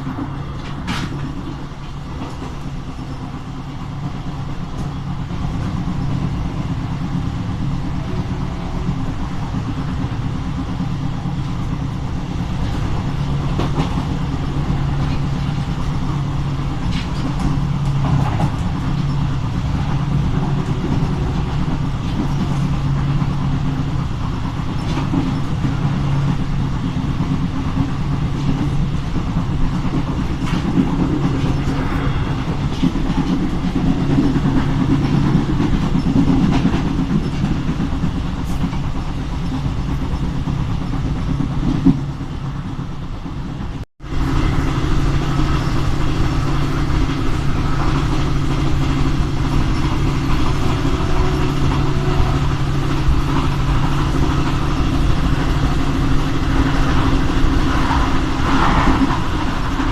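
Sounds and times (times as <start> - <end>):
train running at speed: 0.0 - 59.9
wheels clicking over track: 0.0 - 59.9.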